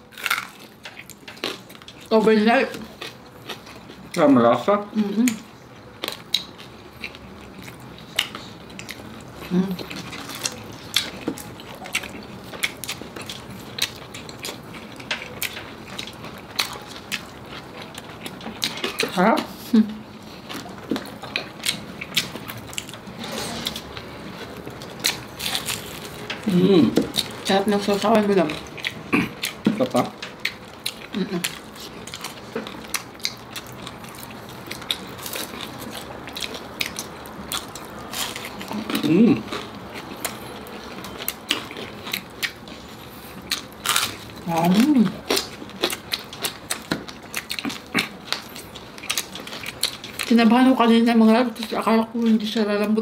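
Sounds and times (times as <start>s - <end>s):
crunchy chewing of crispy pork: 0.0s - 52.7s.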